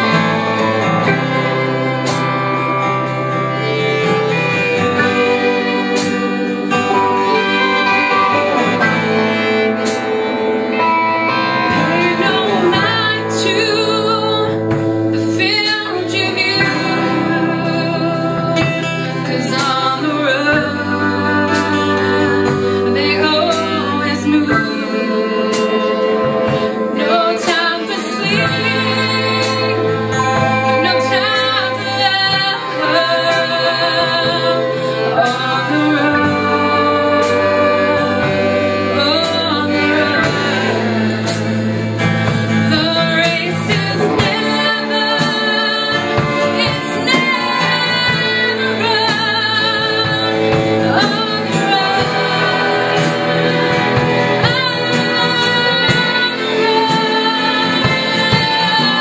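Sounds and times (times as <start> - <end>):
acoustic guitar: 0.0 - 59.0
drum kit: 0.0 - 59.0
person singing: 0.0 - 59.0
violin: 0.0 - 59.0.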